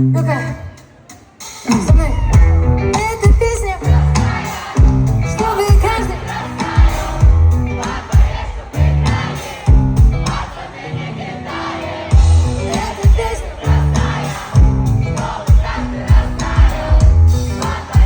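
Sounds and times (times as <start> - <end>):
live pop-rock band playing: 0.0 - 10.8, 11.5 - 18.0
heavy kick-drum beat: 1.6 - 10.8, 12.1 - 18.0
crowd singing along: 2.7 - 18.0.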